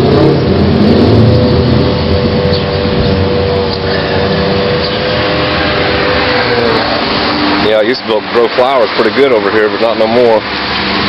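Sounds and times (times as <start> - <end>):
engine droning hum: 0.0 - 11.0
loud rushing noise: 0.0 - 11.0.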